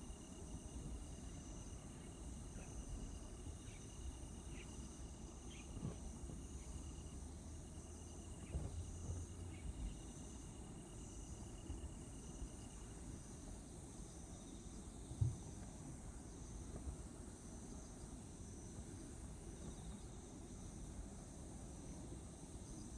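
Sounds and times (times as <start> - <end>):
crickets trilling: 0.0 - 22.9.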